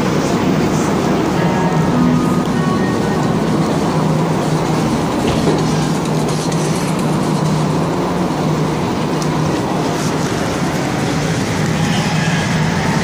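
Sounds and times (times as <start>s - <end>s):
metro car running noise: 0.0s - 13.0s.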